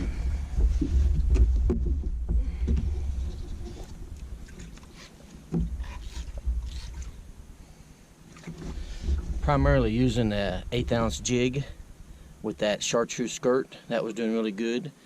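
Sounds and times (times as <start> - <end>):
low uneven rumble: 0.0 - 13.8.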